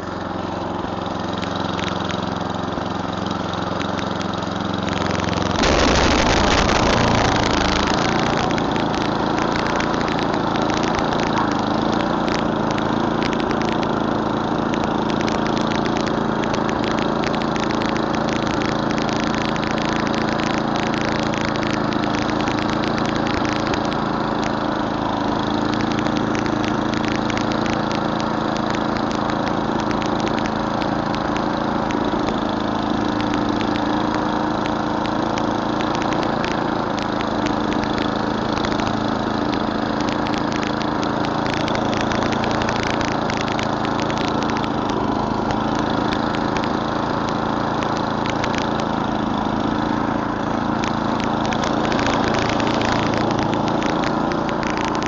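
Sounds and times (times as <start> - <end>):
snowblower engine running: 0.0 - 55.0
small ticks: 1.2 - 49.9, 50.6 - 55.0.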